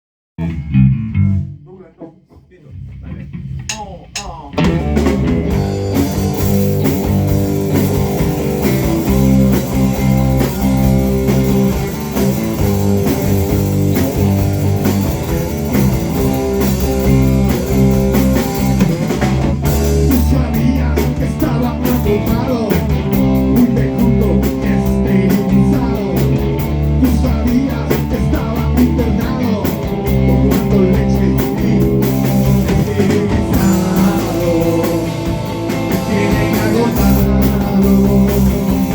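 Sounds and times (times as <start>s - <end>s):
drum kit: 0.4s - 38.9s
guitars: 0.4s - 38.9s.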